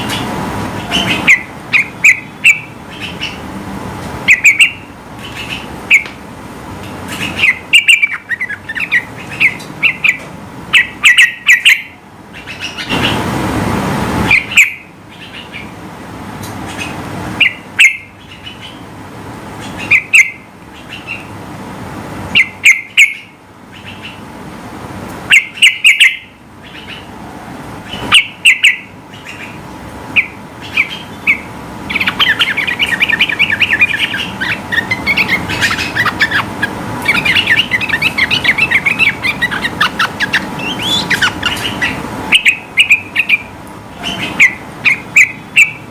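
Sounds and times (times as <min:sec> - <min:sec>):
bird chirping and chattering: 0:00.0 - 0:03.5, 0:04.2 - 0:06.2, 0:06.8 - 0:13.2, 0:14.3 - 0:15.7, 0:16.4 - 0:18.9, 0:19.6 - 0:21.3, 0:22.3 - 0:24.2, 0:25.3 - 0:27.1, 0:27.8 - 0:45.9.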